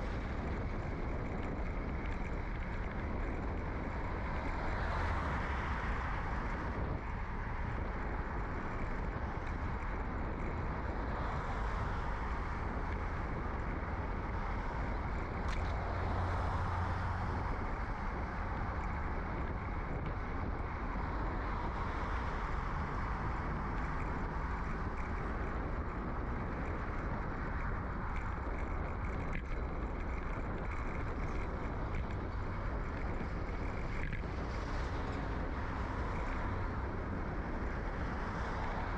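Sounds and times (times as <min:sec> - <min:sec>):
muffled wind rush: 0:00.0 - 0:38.9
rolling road noise: 0:00.0 - 0:38.9.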